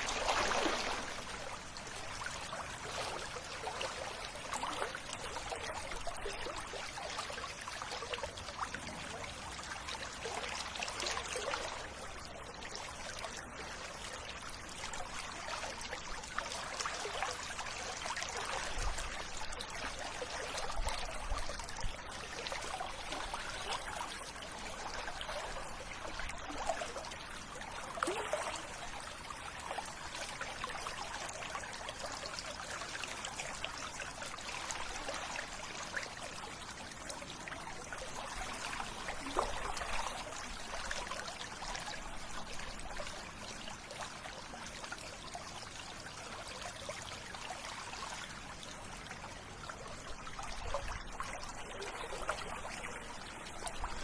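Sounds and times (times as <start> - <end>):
river water trickling: 0.0 - 54.0.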